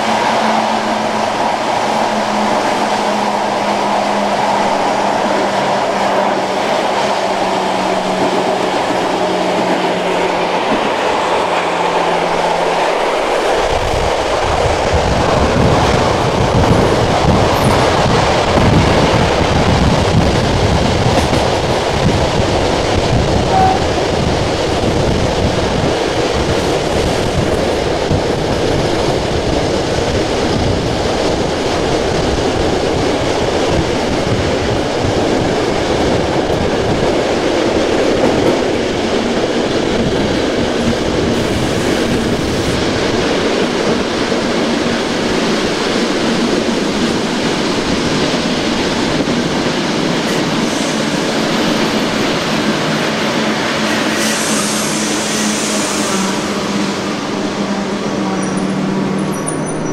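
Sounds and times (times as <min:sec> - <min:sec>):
electric train running on rails: 0:00.0 - 0:59.9.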